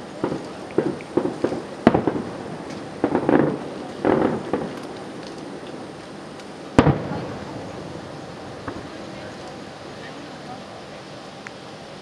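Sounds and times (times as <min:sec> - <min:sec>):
distant fireworks booms: 0:00.0 - 0:11.2.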